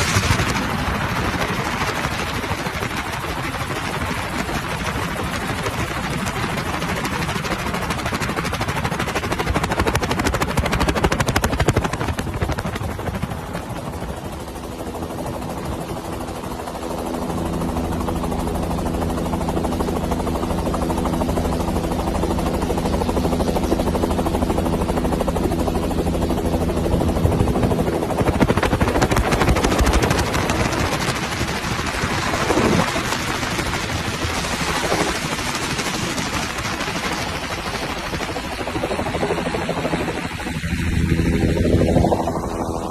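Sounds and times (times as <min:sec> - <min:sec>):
helicopter flying: 0:00.0 - 0:42.9.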